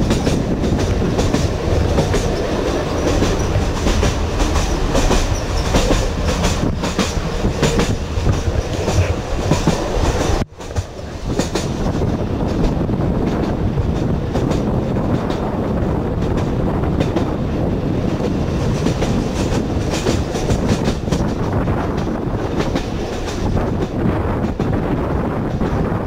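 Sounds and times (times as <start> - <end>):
wheels clicking over rail joints: 0.0 - 15.5, 18.0 - 24.8
train car rumbling: 0.0 - 26.0.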